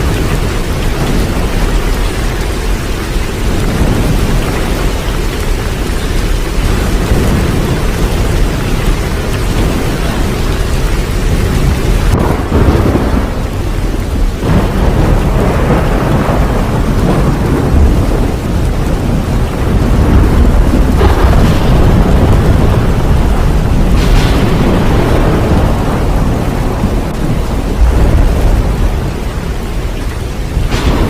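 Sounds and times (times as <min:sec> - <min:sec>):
heavy rain: 0:00.0 - 0:31.0
rolling thunder: 0:00.0 - 0:31.0.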